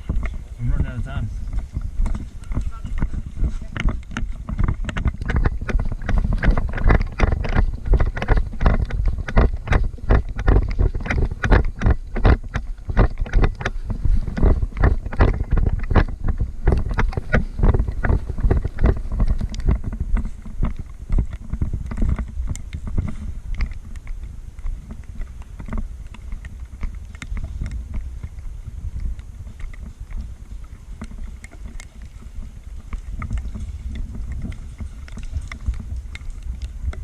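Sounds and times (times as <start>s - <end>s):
camera handling rumble: 0.0s - 37.0s
footsteps on wet ground: 0.0s - 37.0s.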